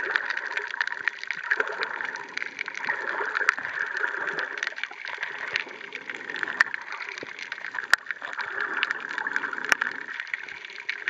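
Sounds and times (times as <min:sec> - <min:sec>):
crackling clicks underwater: 0:00.0 - 0:11.0.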